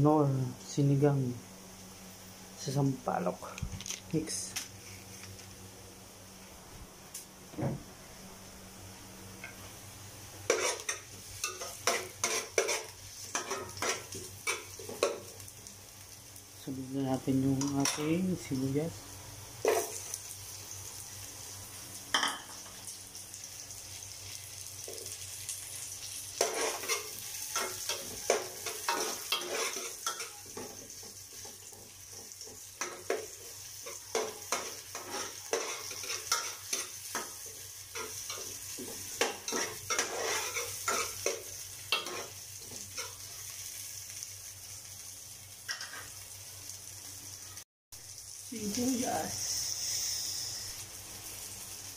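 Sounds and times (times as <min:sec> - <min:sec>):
onion frying in oil: 0:00.0 - 0:51.9.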